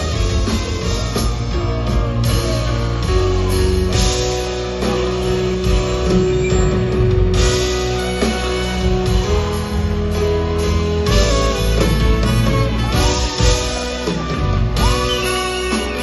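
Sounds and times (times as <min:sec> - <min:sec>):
drum kit: 0:00.0 - 0:16.0
electric guitar: 0:00.0 - 0:16.0
live band playing loud music: 0:00.0 - 0:16.0.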